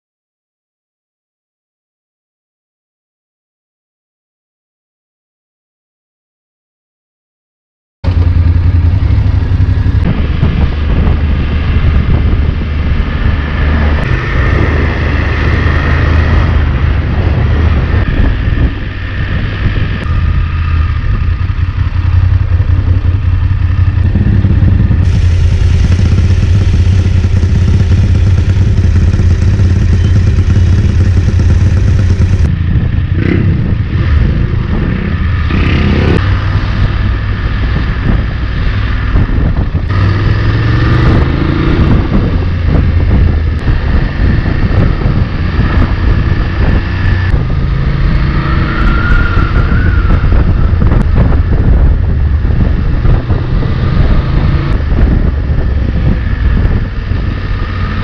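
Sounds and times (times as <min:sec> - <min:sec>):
motorcycle engine running: 0:08.0 - 0:58.0.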